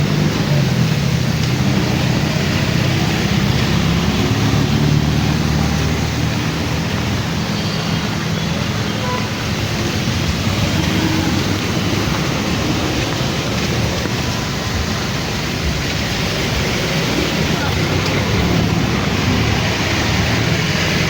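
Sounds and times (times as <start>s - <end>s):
heavy rain on street: 0.0s - 21.0s
passing vehicle engines: 0.0s - 21.0s.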